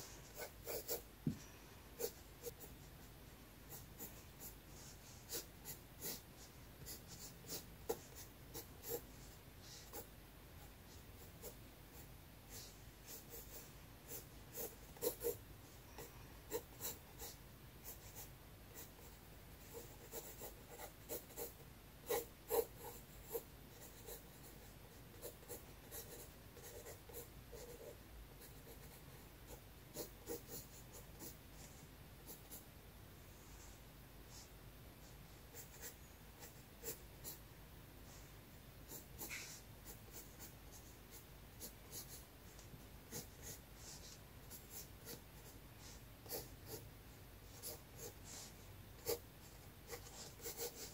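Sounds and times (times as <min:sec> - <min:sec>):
pencil scratching on paper: 0:00.0 - 0:01.4, 0:02.0 - 0:15.4, 0:16.0 - 0:32.7, 0:35.5 - 0:37.4, 0:38.9 - 0:46.8, 0:47.4 - 0:50.9.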